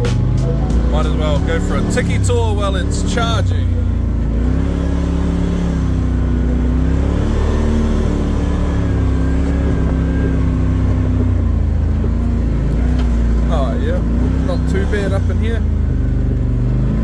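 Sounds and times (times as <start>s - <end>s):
vehicle engine revving off-road: 0.0s - 17.0s.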